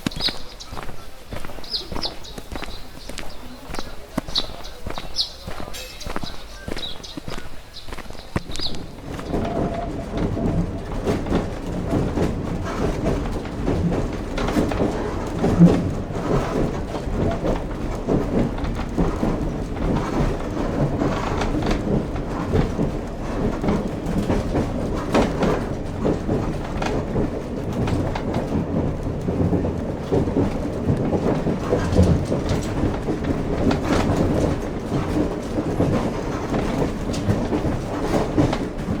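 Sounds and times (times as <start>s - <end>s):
knocks and clatter: 0.0s - 39.0s.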